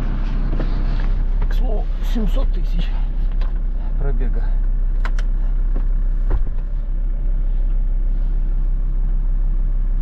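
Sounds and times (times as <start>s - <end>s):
van engine rumbling: 0.0s - 10.0s.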